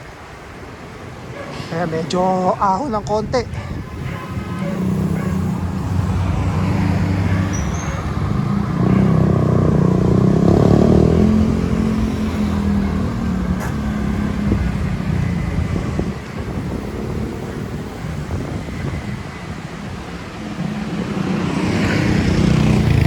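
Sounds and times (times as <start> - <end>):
vehicle engine passing close: 4.0 - 23.0.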